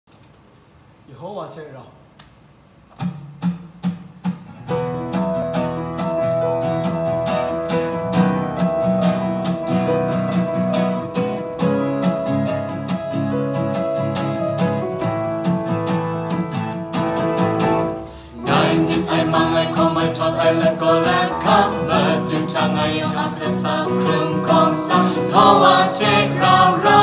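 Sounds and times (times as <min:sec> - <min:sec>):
acoustic guitar strumming: 0:03.0 - 0:27.0
piano accompaniment: 0:04.6 - 0:27.0.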